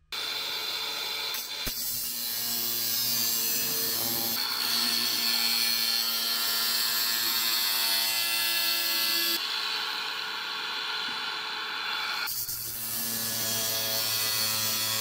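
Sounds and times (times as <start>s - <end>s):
angle grinder cutting steel: 0.1s - 15.0s.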